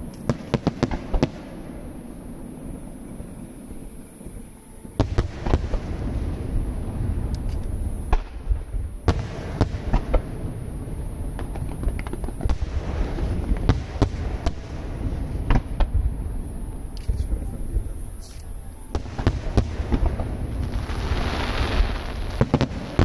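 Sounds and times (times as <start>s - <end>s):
fireworks bursting: 0.0s - 23.0s
low rumble and crackle: 0.0s - 23.0s.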